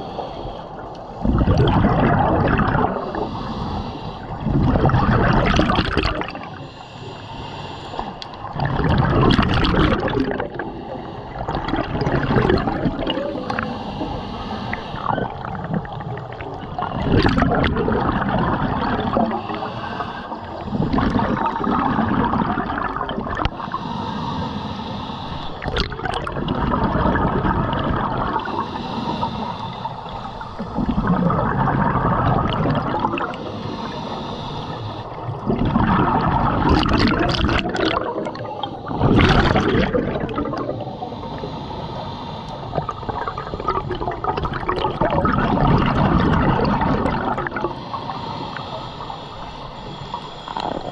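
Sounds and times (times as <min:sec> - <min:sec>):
scuba regulator breathing: 0:00.0 - 0:50.9
exhaust bubbles gurgling: 0:00.9 - 0:03.6, 0:04.2 - 0:06.7, 0:08.0 - 0:23.7, 0:25.4 - 0:29.2, 0:30.0 - 0:41.5, 0:42.5 - 0:48.1, 0:50.2 - 0:50.9.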